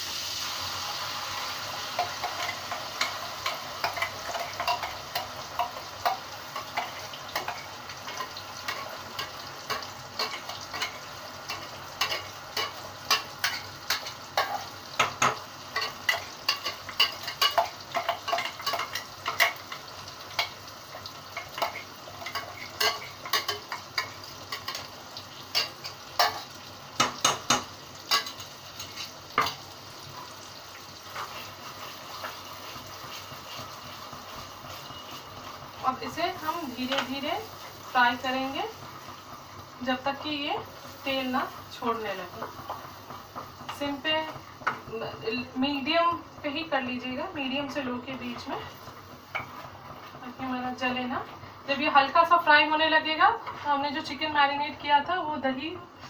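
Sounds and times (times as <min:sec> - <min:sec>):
paste sizzling in hot oil: 0:00.0 - 0:56.0.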